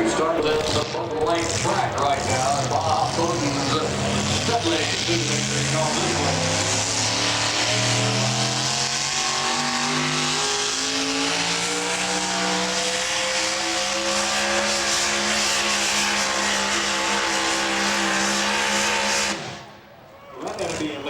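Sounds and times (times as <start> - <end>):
truck engine at high revs: 0.0 - 19.9.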